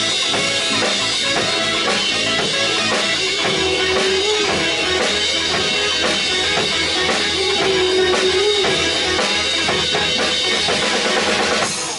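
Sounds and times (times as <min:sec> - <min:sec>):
rock band playing instrumental: 0:00.0 - 0:11.9.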